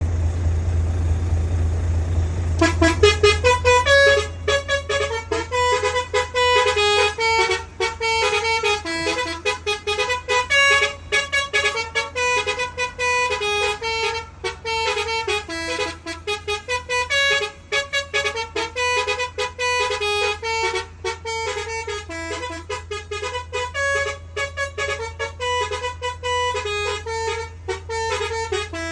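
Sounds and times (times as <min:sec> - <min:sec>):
musical air horn playing a tune: 0:02.6 - 0:28.9.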